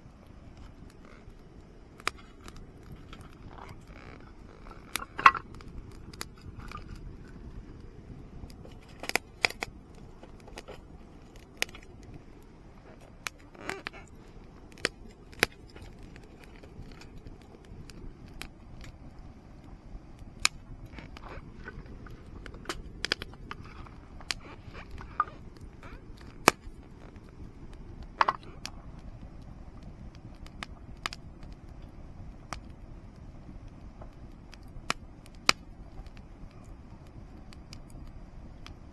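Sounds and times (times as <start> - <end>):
fire low steady rush: 0.0 - 38.9
wood fire pops and crackles: 0.0 - 38.9.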